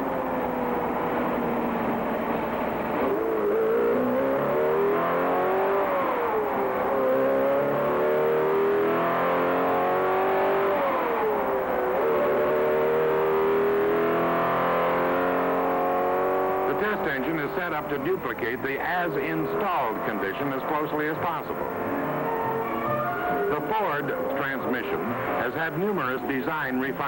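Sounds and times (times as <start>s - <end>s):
racing engine revving: 0.0s - 27.0s.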